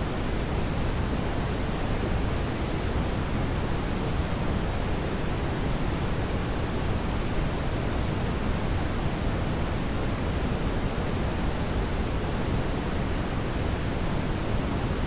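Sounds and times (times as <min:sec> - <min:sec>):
brown noise hiss: 0:00.0 - 0:15.0.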